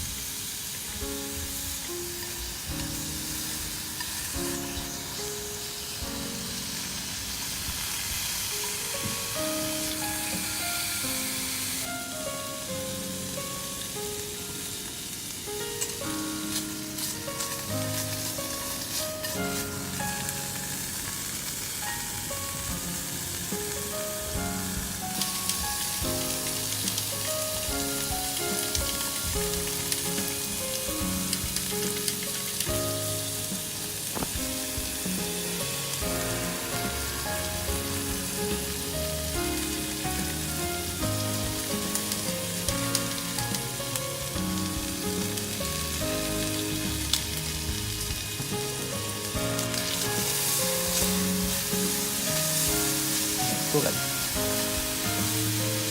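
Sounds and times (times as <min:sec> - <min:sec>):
background music simple melody: 0:00.0 - 0:55.9
food frying sizzle: 0:00.0 - 0:55.9.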